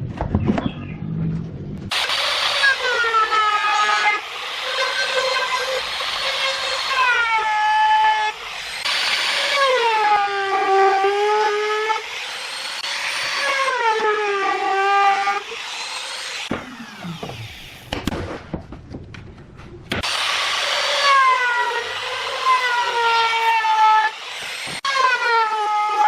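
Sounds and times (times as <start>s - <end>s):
power tool cutting wood: 1.9s - 18.1s, 20.0s - 26.0s.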